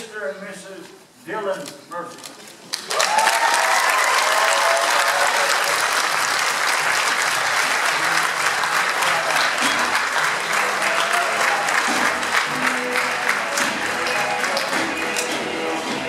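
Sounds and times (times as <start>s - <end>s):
large crowd applauding: 2.7s - 16.0s.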